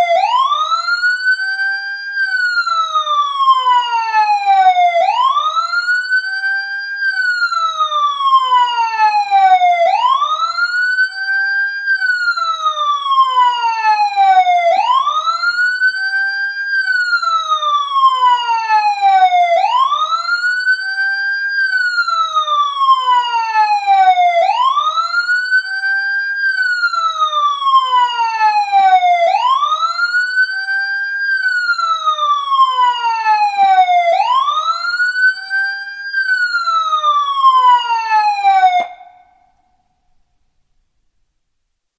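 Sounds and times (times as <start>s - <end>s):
emergency siren wailing: 0.0s - 39.6s.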